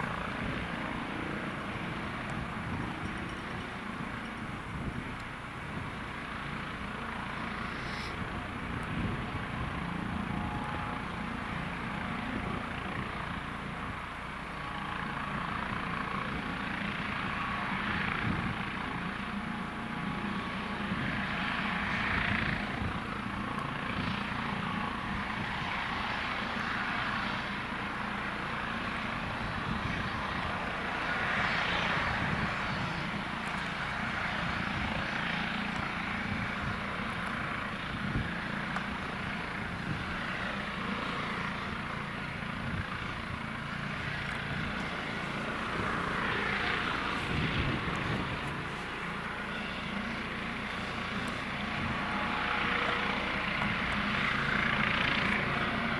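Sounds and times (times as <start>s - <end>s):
helicopter turbines and rotors: 0.0s - 55.9s
hissing whine: 0.0s - 55.9s.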